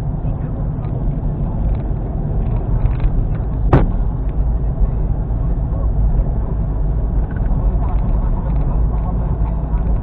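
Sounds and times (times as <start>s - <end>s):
tyres and engine rumble: 0.0s - 10.0s.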